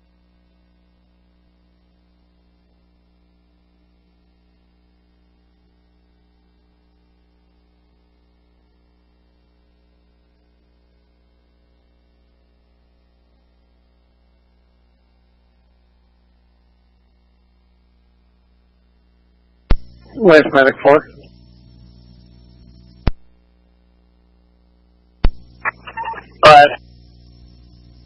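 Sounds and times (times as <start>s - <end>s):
faint electrical mains hum: 0.0s - 28.0s.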